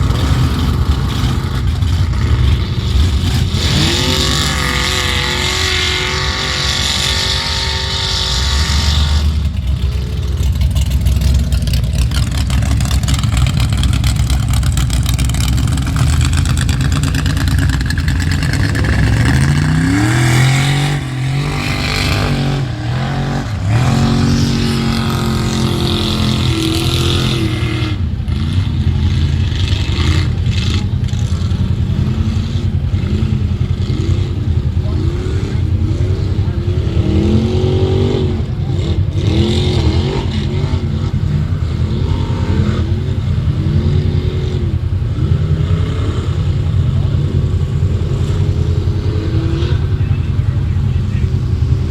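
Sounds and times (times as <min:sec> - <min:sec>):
truck engine revving: 0:00.0 - 0:51.9.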